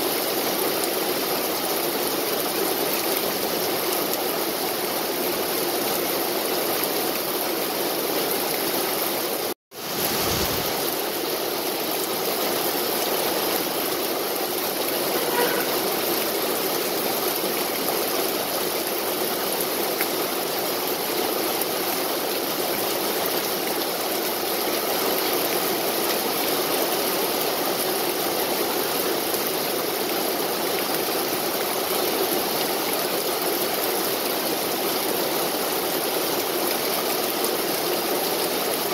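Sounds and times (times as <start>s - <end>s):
rain falling on trees and grass: 0.0s - 38.9s.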